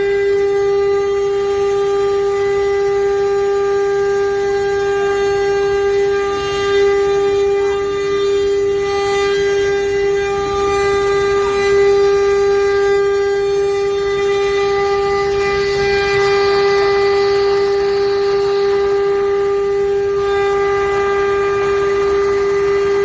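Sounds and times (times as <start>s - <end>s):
cnc router whining and cutting: 0.0s - 23.0s.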